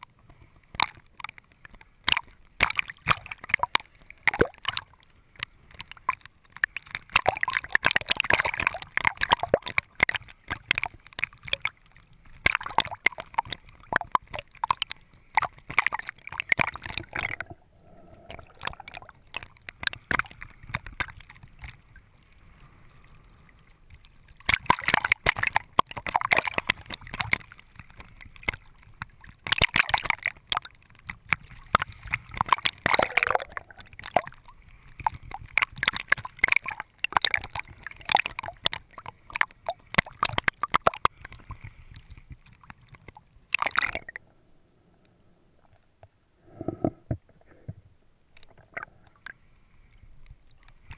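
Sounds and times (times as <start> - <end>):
water sloshing and splashing: 0.0 - 44.2.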